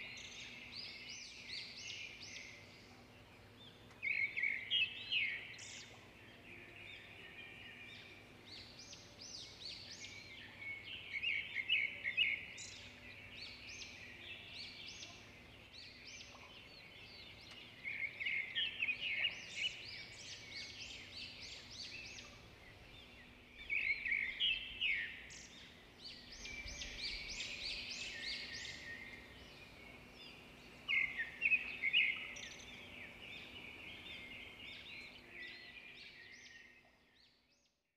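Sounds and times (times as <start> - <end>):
birds chirping: 0.0 - 37.4.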